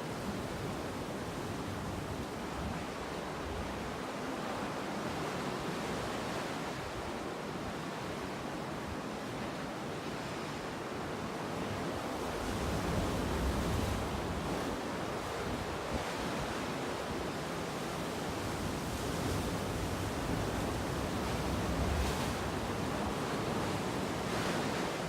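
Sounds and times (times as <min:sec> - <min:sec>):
sea surf: 0:00.0 - 0:25.0.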